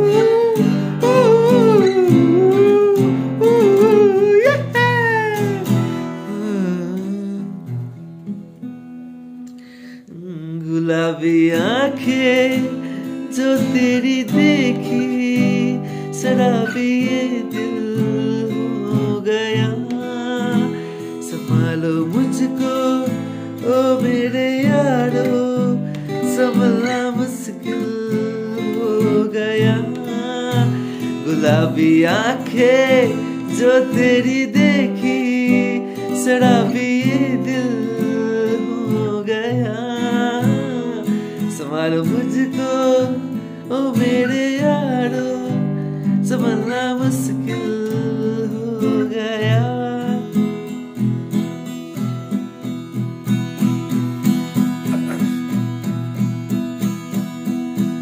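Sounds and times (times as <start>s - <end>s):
man singing: 0.0s - 7.9s, 10.0s - 51.0s, 54.8s - 56.1s
acoustic guitar strumming: 0.0s - 58.0s.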